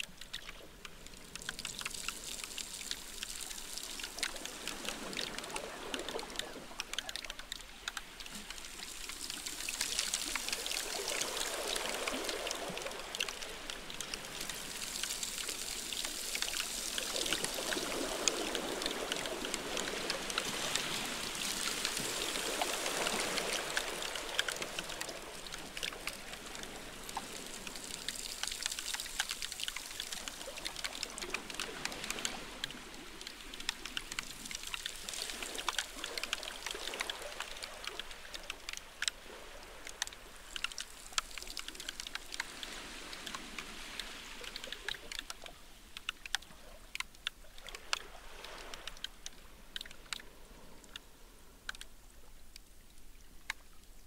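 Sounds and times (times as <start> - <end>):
ice crackling and fizzing: 0.0 - 51.0
watery rushing: 0.0 - 54.0.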